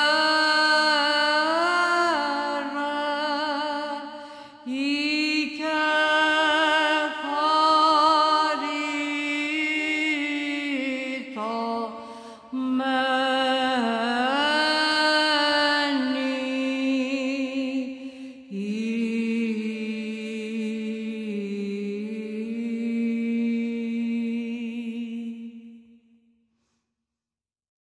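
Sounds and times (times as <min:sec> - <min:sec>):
chanted hymn with held notes: 0:00.0 - 0:25.8.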